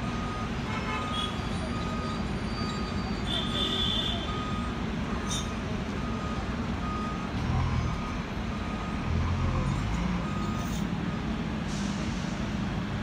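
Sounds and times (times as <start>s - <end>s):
reversing alarm beeps: 0.0s - 3.6s, 4.2s - 11.3s.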